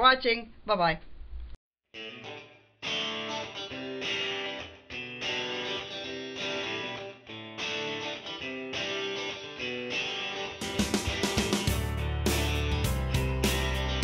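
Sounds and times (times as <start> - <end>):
guitar instrumental music: 1.9 - 14.0.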